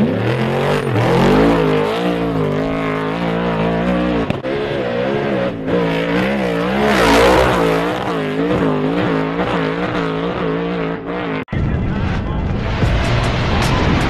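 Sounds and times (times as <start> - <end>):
truck engine revving past: 0.0 - 11.5.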